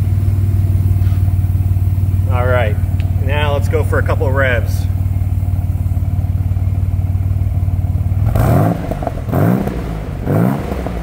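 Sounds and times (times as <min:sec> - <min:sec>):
car engine idling: 0:00.0 - 0:11.0
car engine revving: 0:00.0 - 0:11.0.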